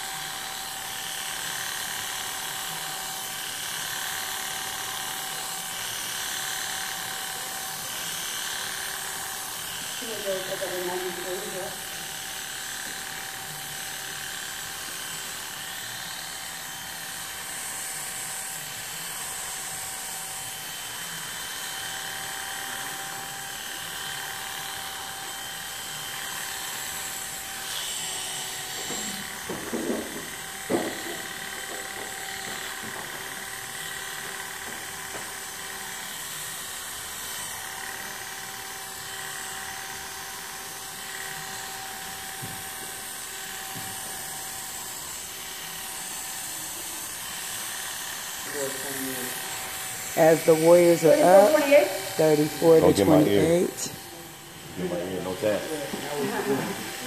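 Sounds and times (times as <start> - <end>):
electric hair clipper humming: 0.0 - 57.0.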